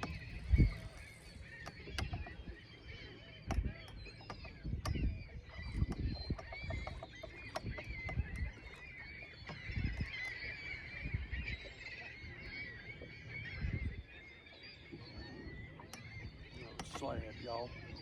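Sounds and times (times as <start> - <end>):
water birds calling: 0.0 - 18.0.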